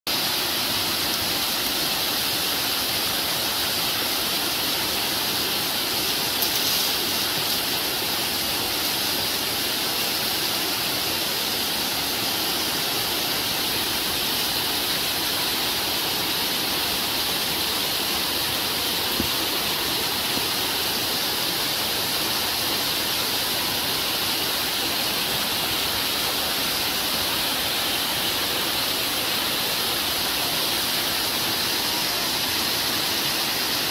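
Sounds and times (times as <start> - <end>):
small waterfall rushing: 0.1 - 33.9.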